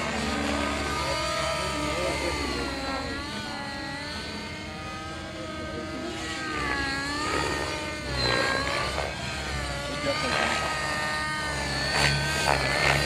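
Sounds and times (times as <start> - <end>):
radio-controlled helicopter whine: 0.0 - 13.0.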